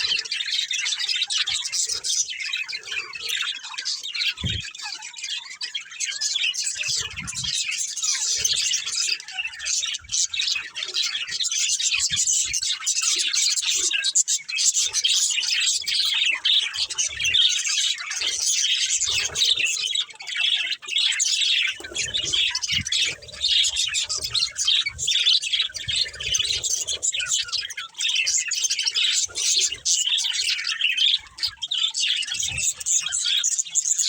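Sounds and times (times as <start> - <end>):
budgerigars chirping: 0.0 - 34.0.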